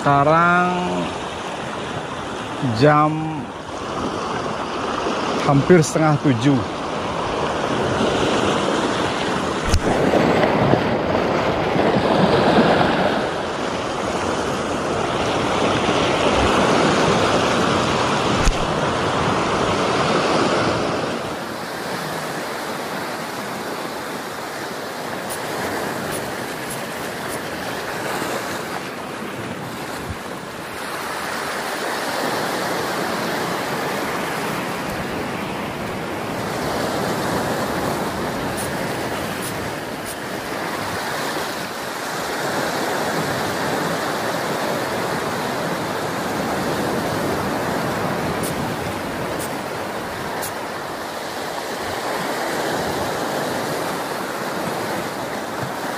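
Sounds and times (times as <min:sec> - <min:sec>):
sea waves breaking on beach: 0:00.0 - 0:55.9.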